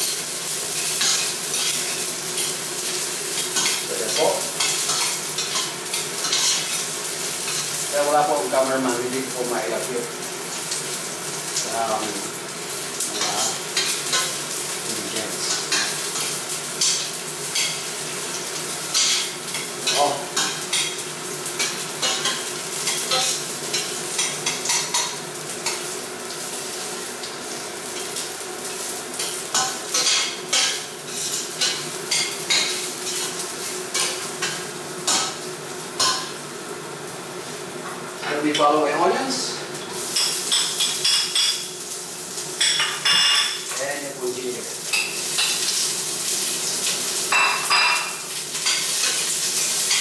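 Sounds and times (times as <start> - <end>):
garlic sizzling in oil: 0.0 - 50.0.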